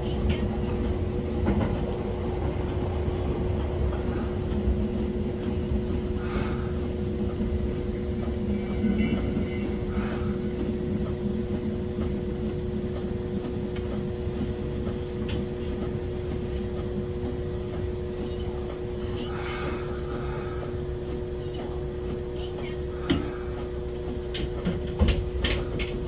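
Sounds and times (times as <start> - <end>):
train motor hum: 0.0 - 26.0
wheels rumbling on rails: 0.0 - 26.0.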